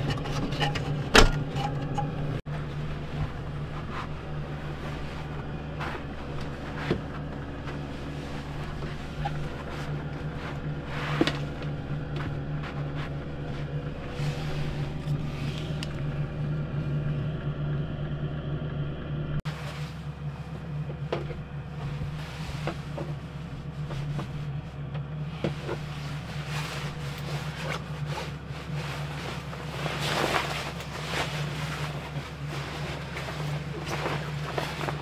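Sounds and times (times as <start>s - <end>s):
rustling and knocks of handling gear: 0.0s - 17.2s, 19.5s - 35.0s
motor humming: 0.0s - 35.0s.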